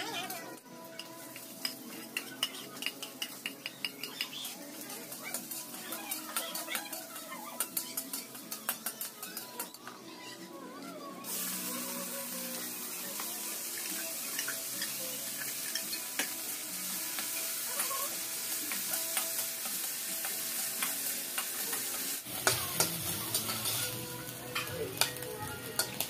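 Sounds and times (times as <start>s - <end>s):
chicken sizzling in oil: 0.0s - 9.6s, 11.2s - 26.0s.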